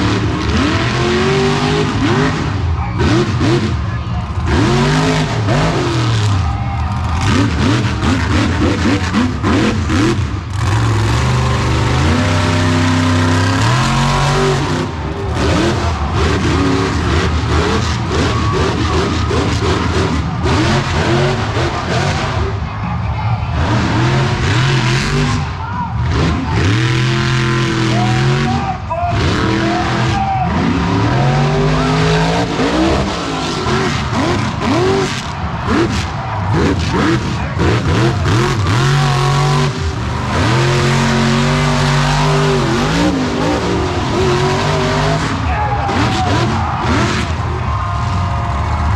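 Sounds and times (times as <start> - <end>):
truck engine revving: 0.0 - 48.9.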